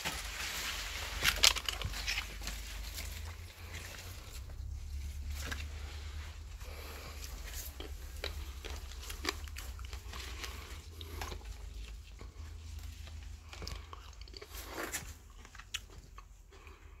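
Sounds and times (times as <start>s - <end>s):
person chewing grapes: 0.0s - 17.0s
steady low rumble: 0.1s - 15.5s.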